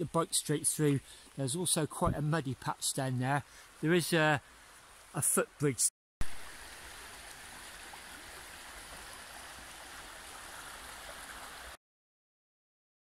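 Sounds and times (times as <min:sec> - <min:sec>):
brook flowing over stones: 0:00.0 - 0:11.8.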